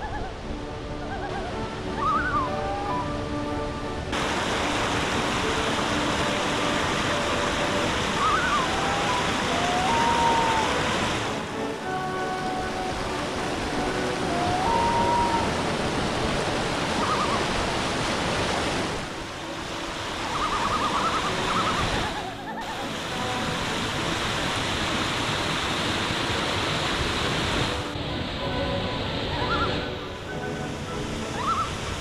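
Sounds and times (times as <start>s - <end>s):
creek water rushing over boulders: 0.0s - 32.0s.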